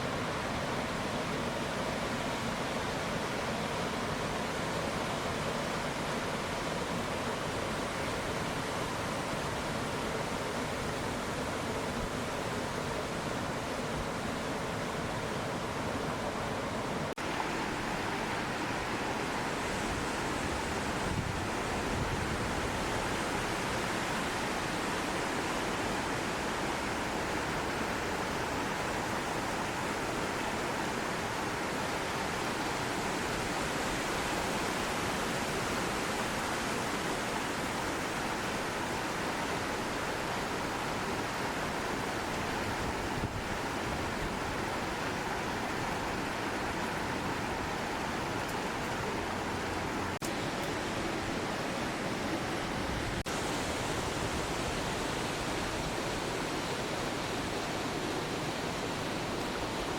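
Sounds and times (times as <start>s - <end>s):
stream rushing over waterfall: 0.0s - 59.9s
wind: 0.0s - 59.9s.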